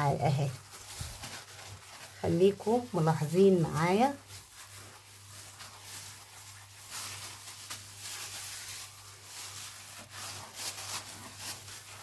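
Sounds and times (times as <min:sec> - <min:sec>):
steel wool scrubbing a wall: 0:00.0 - 0:12.0.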